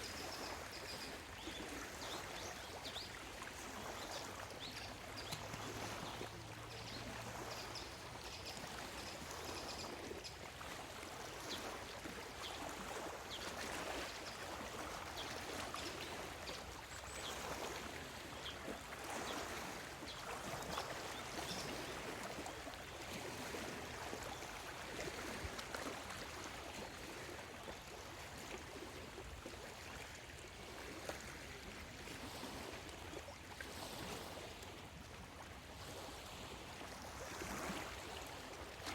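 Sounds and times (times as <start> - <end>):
small waves lapping at shore: 0.0 - 38.9.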